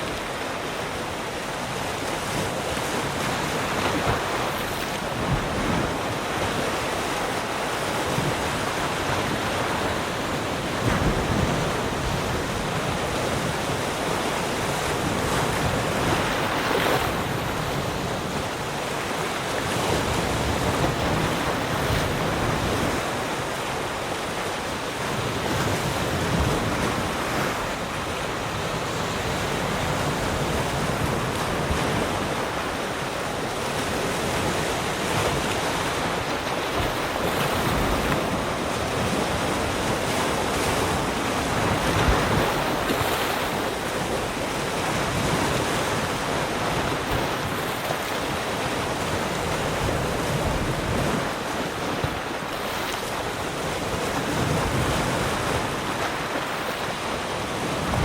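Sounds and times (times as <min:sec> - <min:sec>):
waves breaking on the shore: 0:00.0 - 0:58.0
wind on the microphone: 0:00.0 - 0:58.0.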